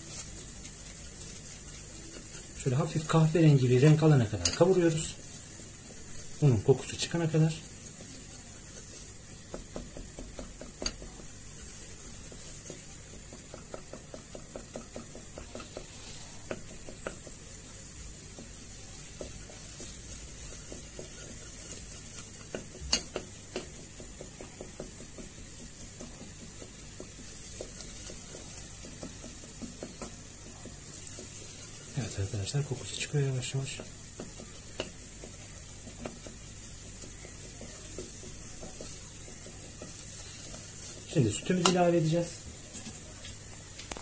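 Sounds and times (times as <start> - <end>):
faint sizzle: 0.0 - 44.0.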